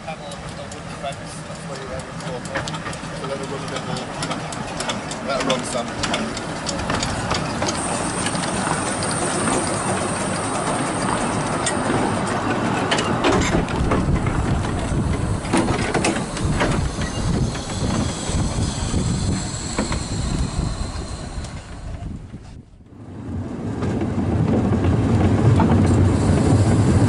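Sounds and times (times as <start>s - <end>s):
wheels clicking over rail joints: 0.0s - 22.3s, 23.2s - 27.0s
train wheels rumbling on rail: 0.0s - 27.0s.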